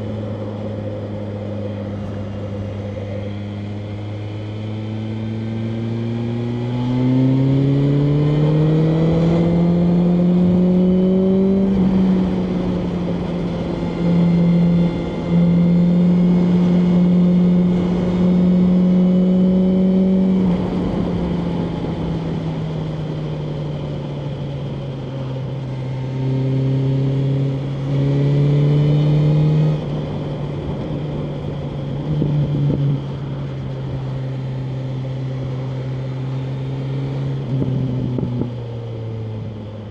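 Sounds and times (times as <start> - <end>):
motorcycle engine revving: 0.0 - 24.0, 24.7 - 39.9.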